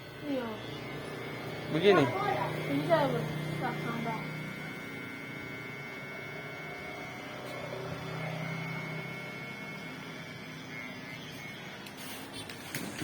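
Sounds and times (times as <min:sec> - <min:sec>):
electric hair clipper humming: 0:00.0 - 0:13.0.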